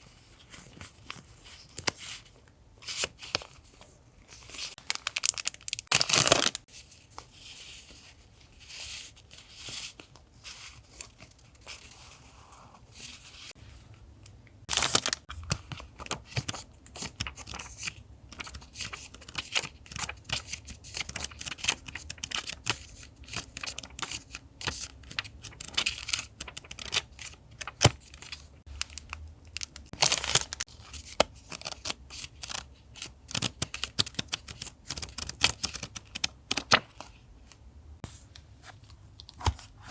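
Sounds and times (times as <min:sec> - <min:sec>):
paper crinkling and scratching: 0:02.9 - 0:13.5, 0:14.7 - 0:37.1.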